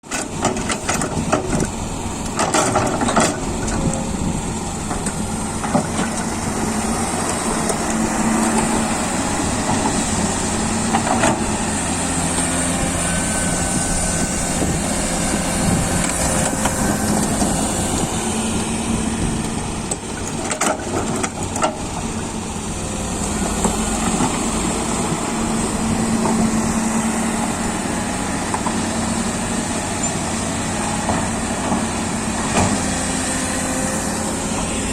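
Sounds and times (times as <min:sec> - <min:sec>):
excavator diesel engine working: 0:00.0 - 0:34.9.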